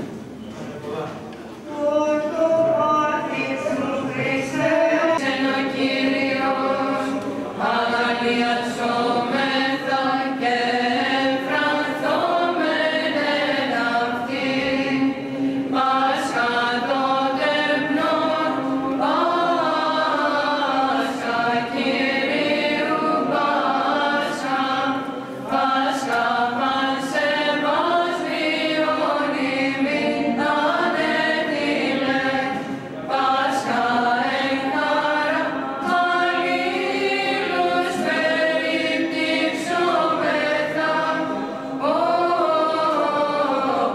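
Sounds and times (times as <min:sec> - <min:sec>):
women's choir singing chant: 0:01.7 - 0:43.9.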